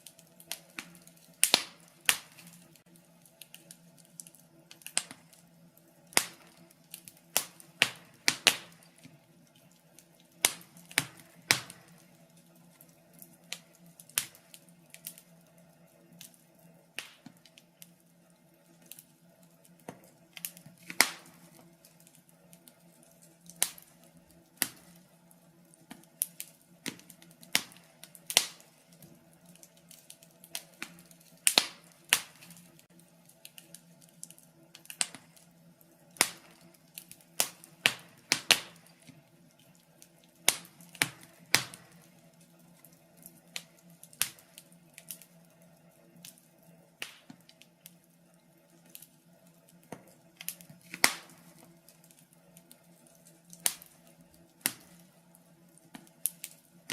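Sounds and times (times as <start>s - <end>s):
faint steady hum: 0.0s - 56.9s
wood fire crackling: 0.0s - 56.9s.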